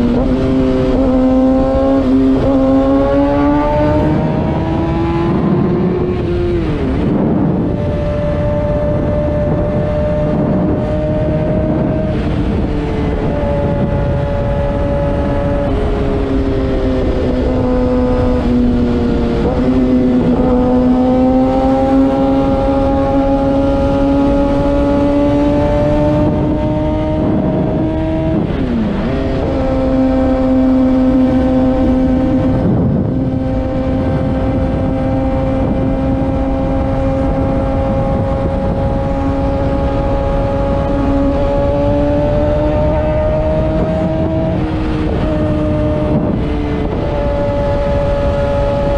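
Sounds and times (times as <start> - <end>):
motorcycle engine high pitch: 0.0 - 48.9
wind rumble: 0.0 - 48.9.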